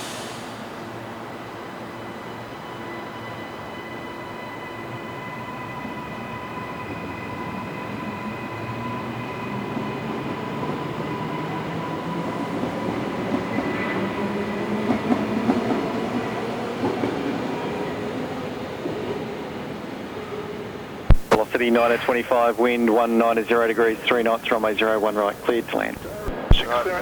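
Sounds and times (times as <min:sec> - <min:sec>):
jet engines at takeoff: 0:00.0 - 0:02.5, 0:05.0 - 0:27.0.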